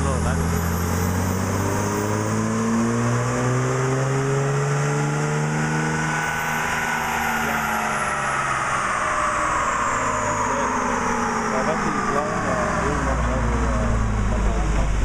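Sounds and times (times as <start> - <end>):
diesel engine revving under load: 0.0 - 15.0.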